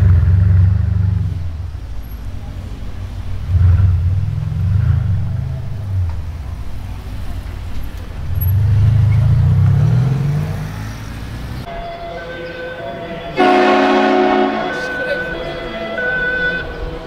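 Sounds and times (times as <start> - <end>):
car engine and exhaust: 0.0 - 17.0.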